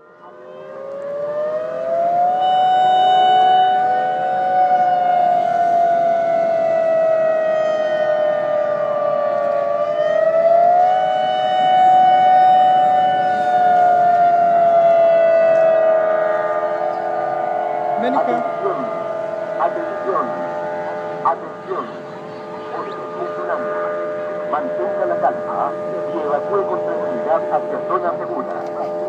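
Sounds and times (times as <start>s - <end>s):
warning sirens wailing: 0.0s - 29.0s.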